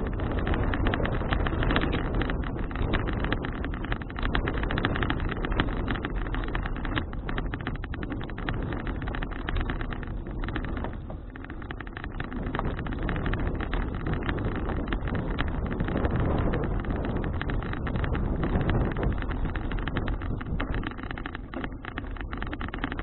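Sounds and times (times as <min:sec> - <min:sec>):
tyre and road noise: 0:00.0 - 0:23.0
wind buffeting microphone: 0:00.0 - 0:23.0.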